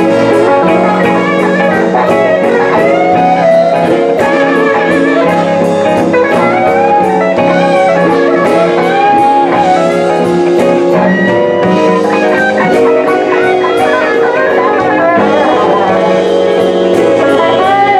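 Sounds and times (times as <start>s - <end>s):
electric guitar lead: 0.0s - 17.9s
live blues band playing: 0.0s - 17.9s.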